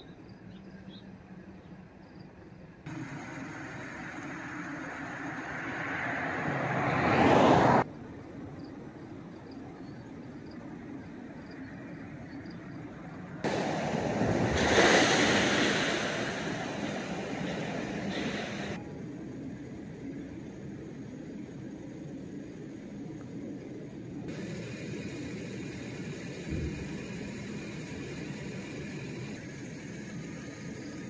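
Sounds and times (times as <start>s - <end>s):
freight cars rolling past: 1.2s - 31.0s.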